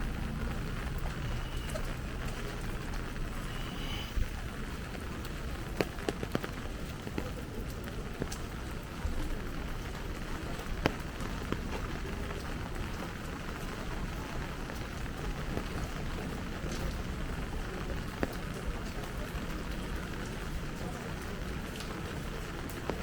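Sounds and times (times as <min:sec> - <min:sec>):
light rain falling: 0:00.0 - 0:23.0
raindrops ticking on umbrella: 0:00.0 - 0:23.0.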